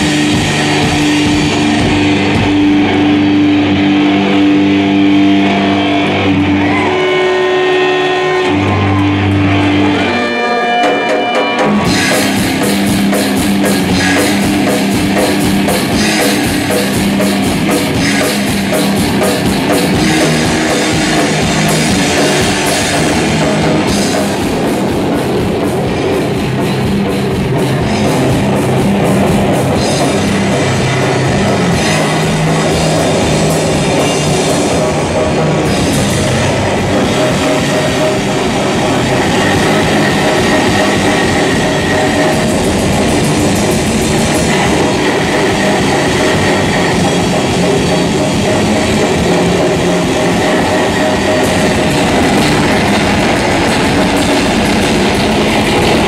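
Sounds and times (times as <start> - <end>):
drum kit playing: 0.0 - 56.0
electric guitar: 0.0 - 56.0.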